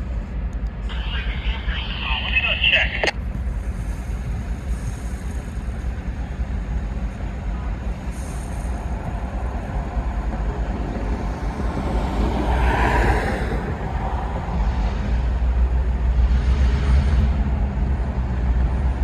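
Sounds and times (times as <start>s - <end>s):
distant diesel locomotive rumble: 0.0s - 19.0s.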